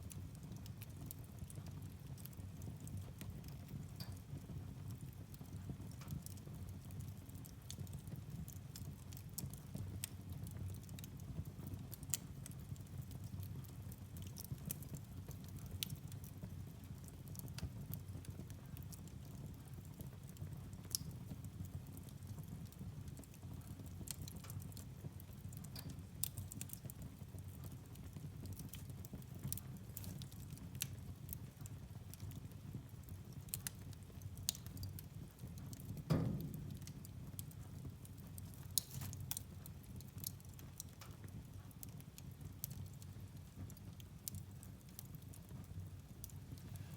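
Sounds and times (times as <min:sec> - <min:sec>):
fire low rumble: 0:00.0 - 0:46.9
firewood popping and crackling: 0:00.1 - 0:46.9.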